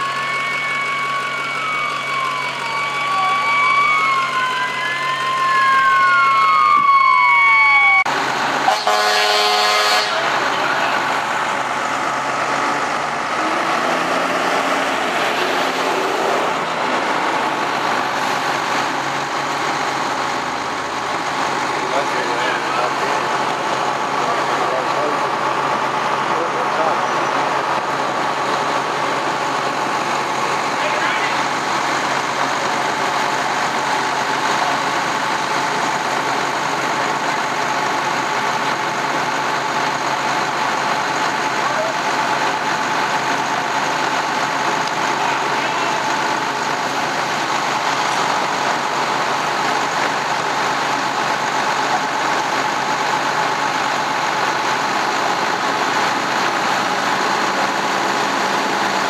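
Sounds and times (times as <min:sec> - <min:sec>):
fire engine motor running: 0:00.0 - 0:59.0.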